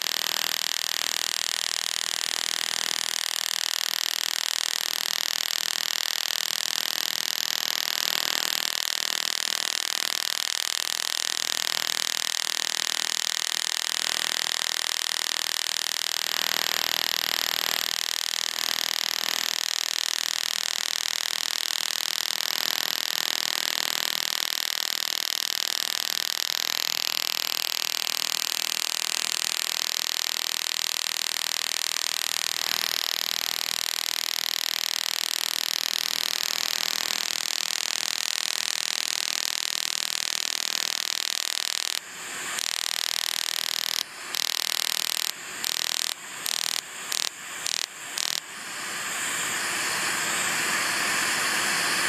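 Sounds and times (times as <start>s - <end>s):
laser hissing buzz: 0.0s - 52.0s.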